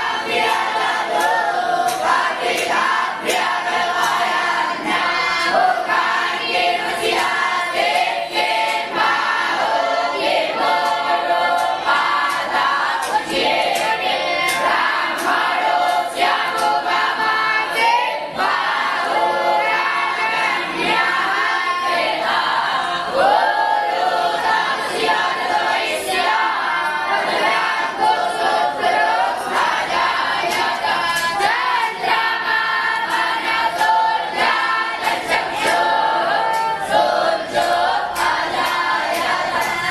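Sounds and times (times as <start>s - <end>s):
group chanting in unison: 0.0s - 39.9s.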